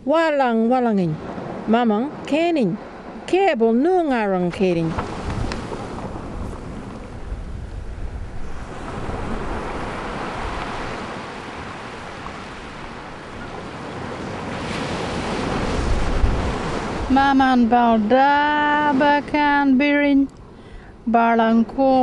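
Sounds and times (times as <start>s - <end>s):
wind rumbling on microphone: 0.0s - 22.0s
ocean surf washing onto beach: 0.2s - 22.0s.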